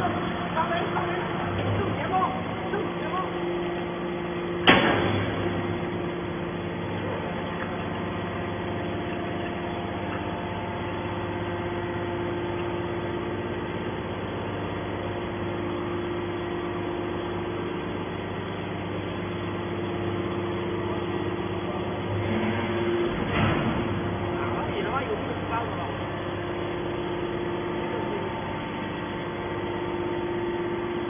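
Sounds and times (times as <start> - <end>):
baler motor and pump humming: 0.0 - 31.0.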